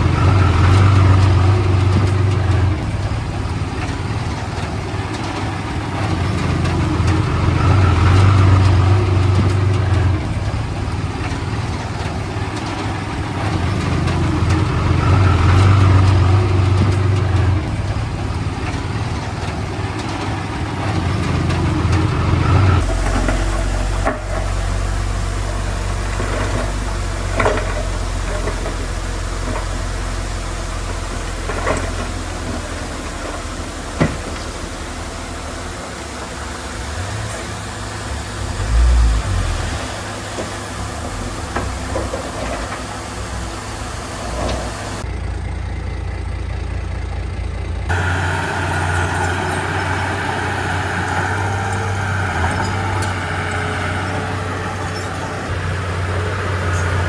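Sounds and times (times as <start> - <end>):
heavy diesel engine working: 0.0 - 57.0.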